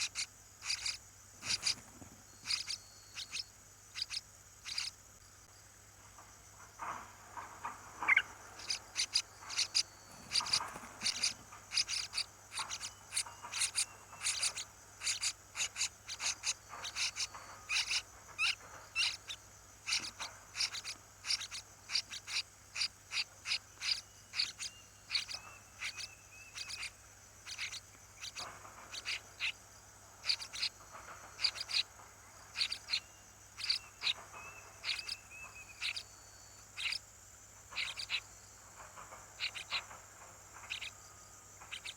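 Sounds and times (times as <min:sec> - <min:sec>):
faint steady high hum: 0:00.0 - 0:41.9
small birds chirping: 0:00.0 - 0:41.9.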